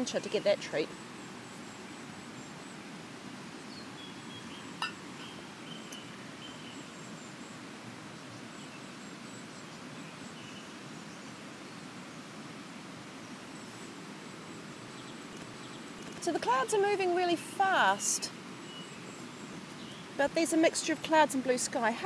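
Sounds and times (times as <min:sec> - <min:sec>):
high calls of birds or insects: 0:00.0 - 0:12.3, 0:13.0 - 0:22.0
river flowing: 0:00.0 - 0:22.0.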